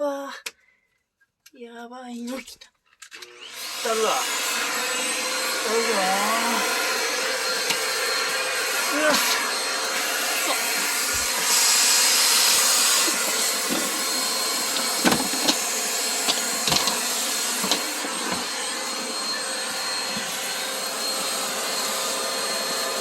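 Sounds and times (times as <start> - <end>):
vacuum cleaner running: 3.2 - 23.0.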